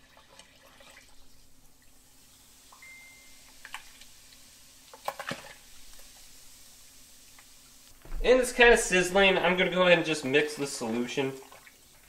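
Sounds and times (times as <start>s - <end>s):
water sizzling faintly: 0.0s - 12.0s.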